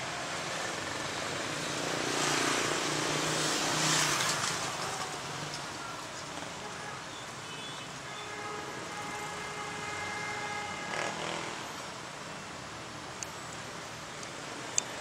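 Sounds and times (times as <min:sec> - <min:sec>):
motor vehicle noise: 0:00.0 - 0:15.0.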